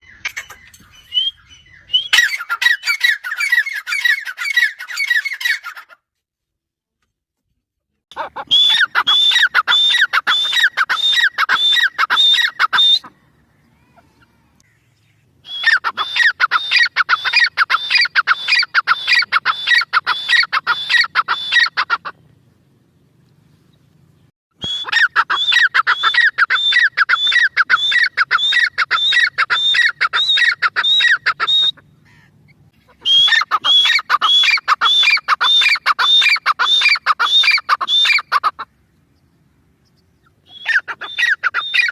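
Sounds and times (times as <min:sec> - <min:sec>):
partridge calling: 0:00.0 - 0:06.0, 0:08.1 - 0:22.2, 0:23.8 - 0:41.9.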